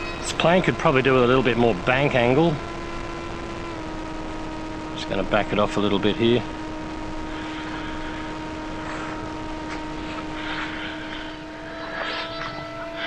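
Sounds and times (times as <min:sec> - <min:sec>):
electric motor and propeller buzzing: 0:00.0 - 0:04.8, 0:05.8 - 0:13.0.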